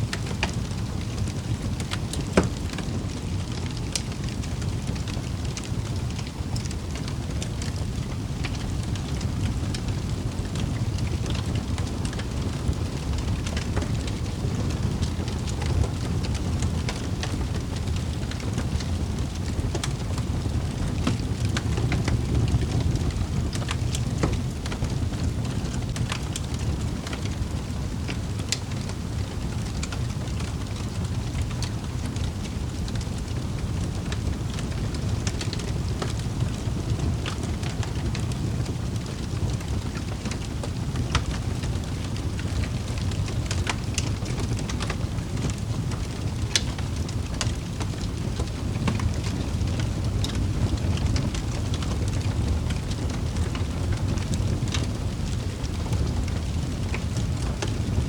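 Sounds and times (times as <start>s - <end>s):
fire crackling and popping: 0.0s - 58.0s
low roar of flames: 0.0s - 58.0s.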